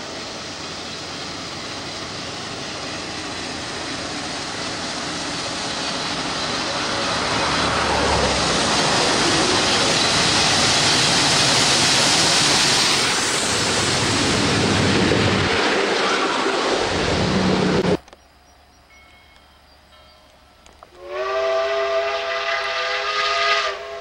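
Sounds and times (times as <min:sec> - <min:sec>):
train rushing past: 0:00.0 - 0:18.0, 0:20.6 - 0:24.0.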